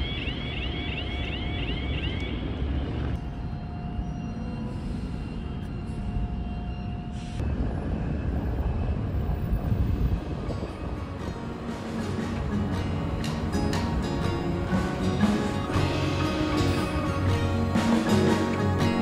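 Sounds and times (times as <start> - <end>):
street traffic rumbling: 0.0 - 19.0.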